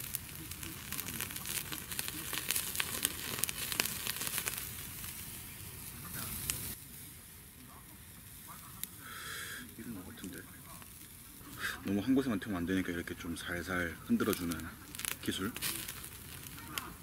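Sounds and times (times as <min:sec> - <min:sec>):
fire pops and crackles: 0:00.0 - 0:17.0
meat sizzling on a grill: 0:00.0 - 0:17.0.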